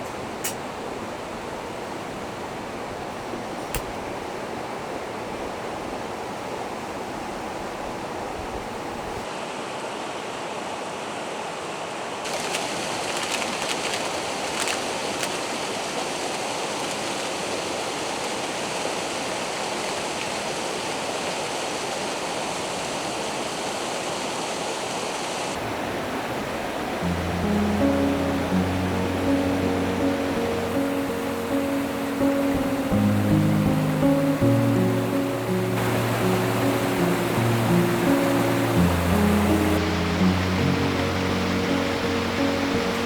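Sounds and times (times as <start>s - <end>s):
forest stream rushing: 0.0s - 43.0s.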